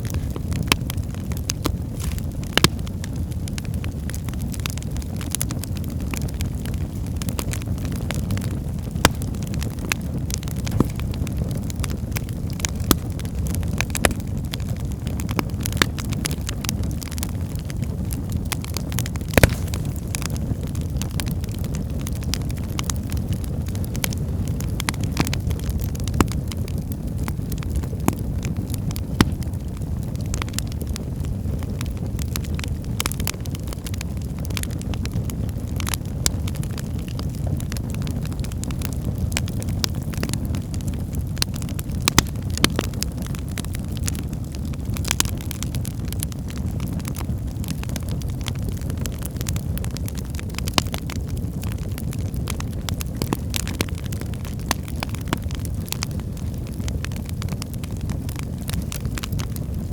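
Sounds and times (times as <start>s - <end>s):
fire crackles and pops: 0.0s - 59.9s
low rumble of flames: 0.0s - 59.9s.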